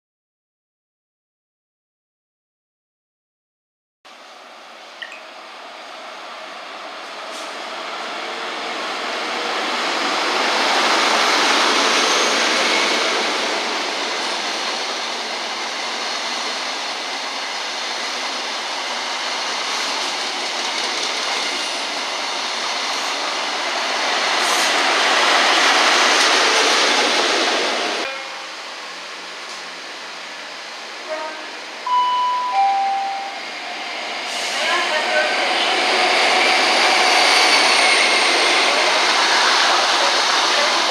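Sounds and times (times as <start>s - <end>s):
train rumbling on rails: 4.2s - 40.9s.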